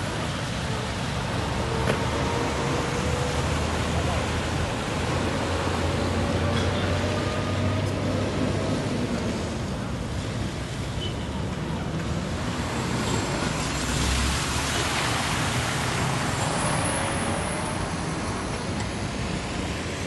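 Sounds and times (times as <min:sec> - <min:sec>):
traffic rumble: 0:00.0 - 0:20.0
tyres splashing through water: 0:00.0 - 0:20.0.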